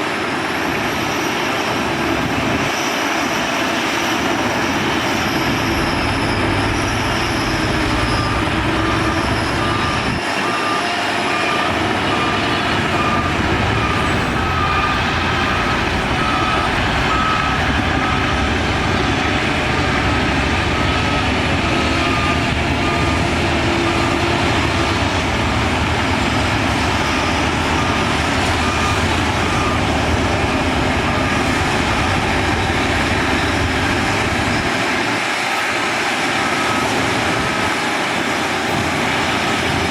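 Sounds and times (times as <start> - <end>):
heavy diesel machinery running: 0.0 - 39.9
reversing alarm beeping: 1.0 - 39.9.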